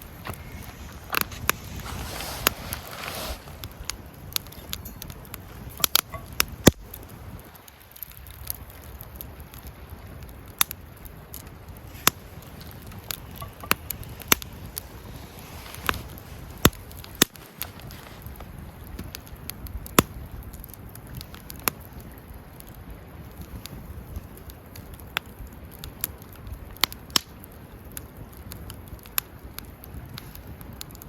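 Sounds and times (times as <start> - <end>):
campfire crackling and popping: 0.0 - 31.0
low rumble of burning: 0.0 - 31.0.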